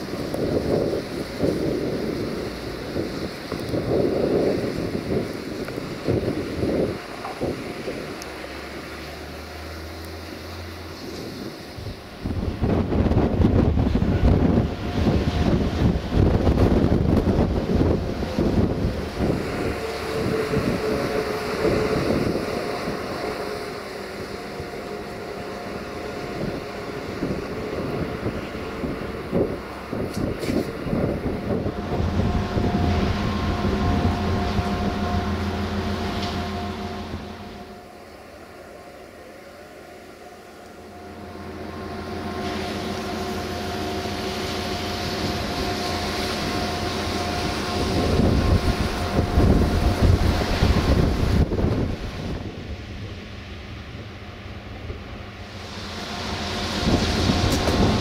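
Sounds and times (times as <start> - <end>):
wind rumbling on microphone: 0.0 - 9.5, 10.5 - 38.2, 41.2 - 58.0
train engine humming: 0.0 - 58.0.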